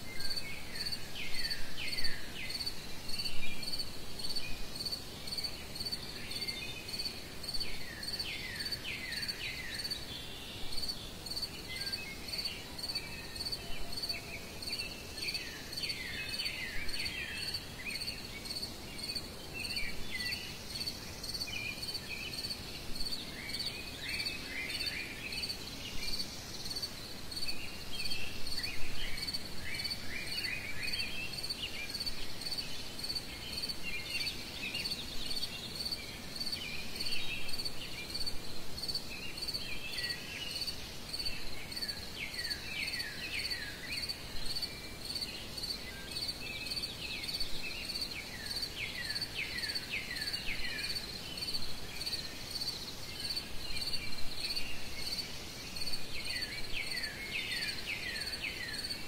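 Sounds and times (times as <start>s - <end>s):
cricket chirping: 0.1s - 10.0s, 10.7s - 59.0s.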